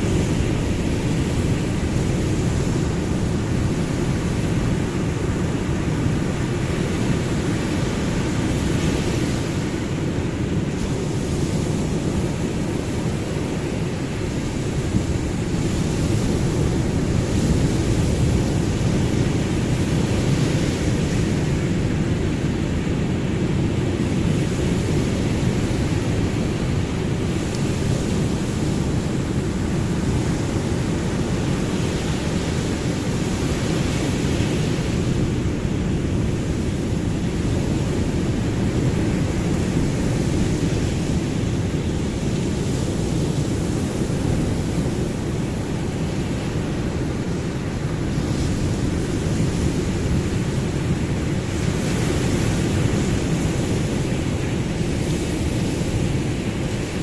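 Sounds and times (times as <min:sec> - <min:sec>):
ocean waves rushing: 0:00.0 - 0:57.0.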